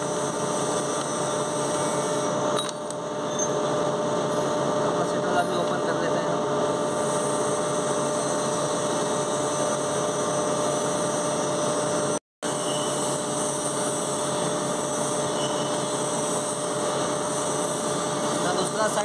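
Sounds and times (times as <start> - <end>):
machine droning hum: 0.0 - 19.0.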